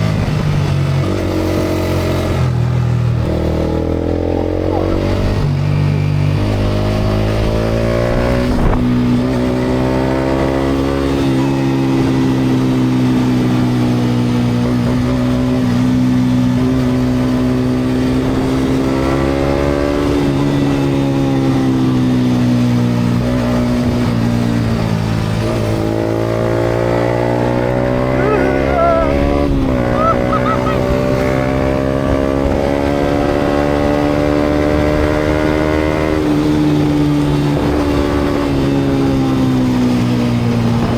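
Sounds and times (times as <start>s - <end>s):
road noise: 0.0s - 20.0s, 20.6s - 40.9s.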